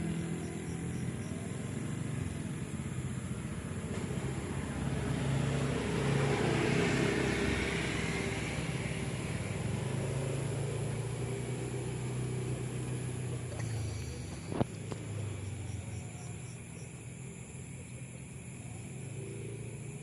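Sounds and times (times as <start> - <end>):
vehicle passing: 0.0 - 18.2
engine humming: 0.0 - 20.0.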